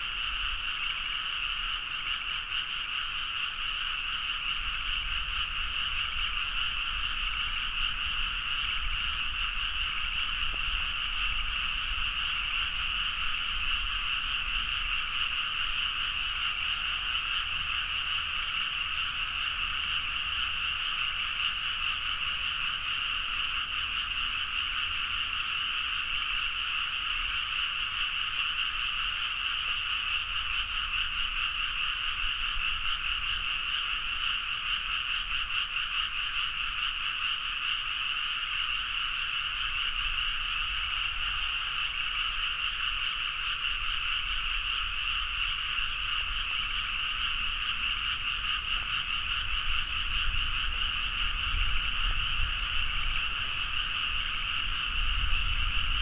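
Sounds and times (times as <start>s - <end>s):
chorus of frogs croaking: 0.0s - 56.0s.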